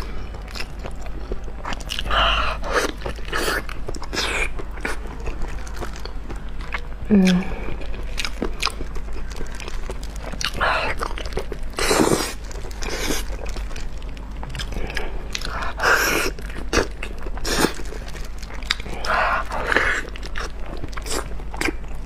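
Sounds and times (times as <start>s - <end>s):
close-miked chewing and biting: 0.0s - 22.0s.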